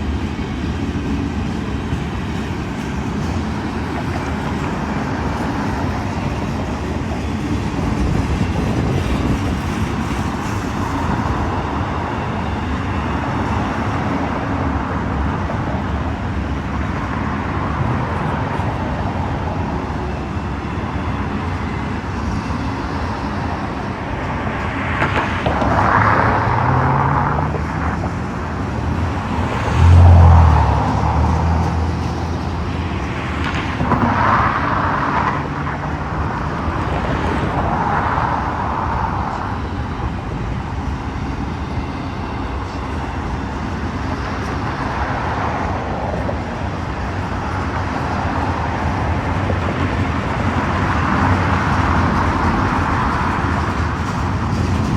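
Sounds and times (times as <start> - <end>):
outdoor vehicle noise: 0.0 - 54.9
vehicles passing: 0.0 - 54.9.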